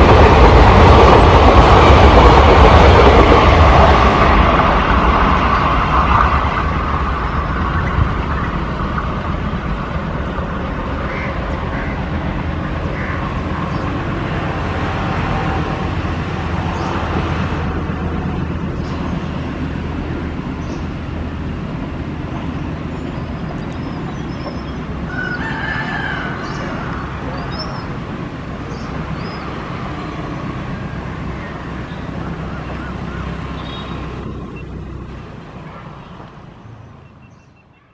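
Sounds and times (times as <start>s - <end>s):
train wheels rumbling on rails: 0.0s - 37.8s.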